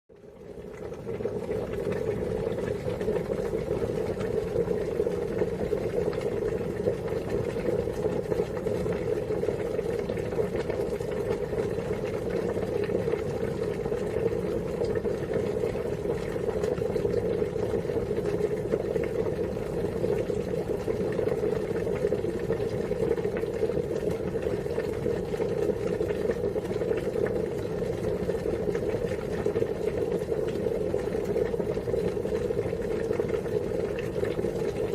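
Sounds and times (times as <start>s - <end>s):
water boiling: 0.1s - 34.9s.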